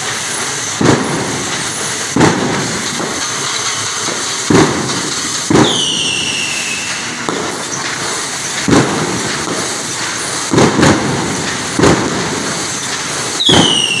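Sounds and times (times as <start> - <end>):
machinery running steadily: 0.0 - 14.0
sharp machine bangs: 0.0 - 14.0.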